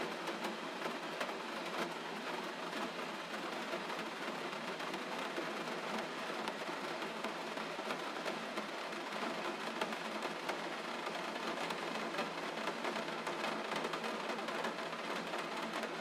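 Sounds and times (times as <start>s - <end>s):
gentle rain: 0.0s - 16.0s.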